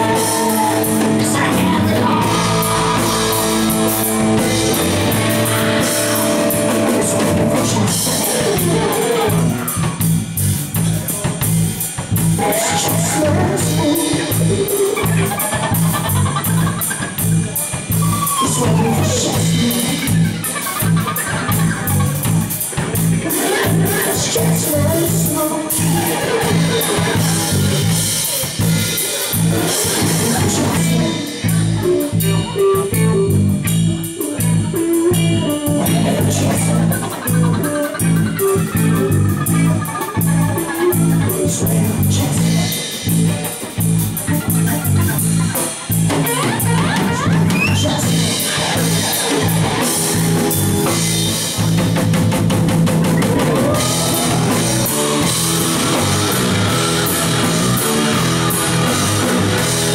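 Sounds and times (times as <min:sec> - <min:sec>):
drum kit beat: 0:00.0 - 0:59.9
rock band playing: 0:00.0 - 0:59.9.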